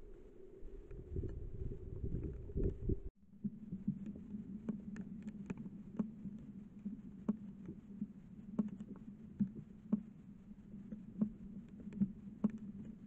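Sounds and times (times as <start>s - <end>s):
soft ticks and clicks: 2.1s - 13.0s.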